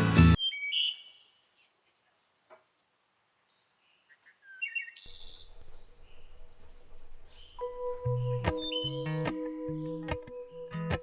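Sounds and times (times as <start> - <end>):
small birds chirping: 0.4 - 11.0.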